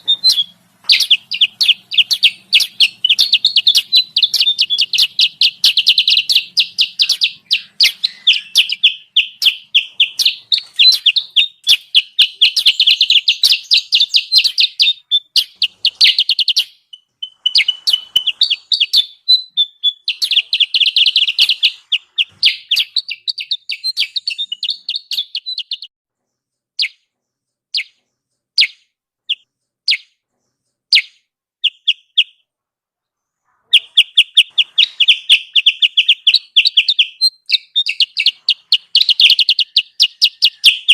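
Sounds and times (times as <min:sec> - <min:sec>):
bird chirping rapidly: 0:00.0 - 0:32.5, 0:33.2 - 0:40.9.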